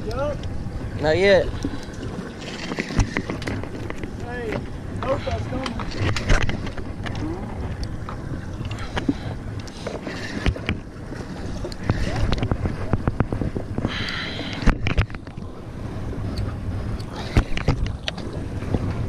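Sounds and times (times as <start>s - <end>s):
water against boat hull: 0.0s - 19.0s
wind rumbling on microphone: 0.0s - 19.0s.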